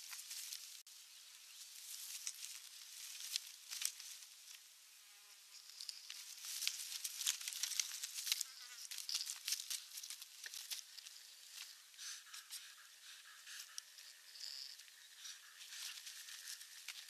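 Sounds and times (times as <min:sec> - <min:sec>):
dry sticks rustling and crackling: 0:00.0 - 0:04.7, 0:05.5 - 0:17.0
high buzzing hiss: 0:00.0 - 0:17.0.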